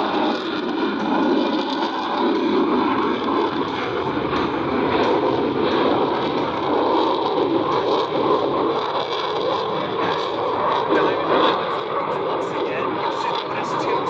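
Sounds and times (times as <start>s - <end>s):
jet engine noise: 0.0s - 14.0s.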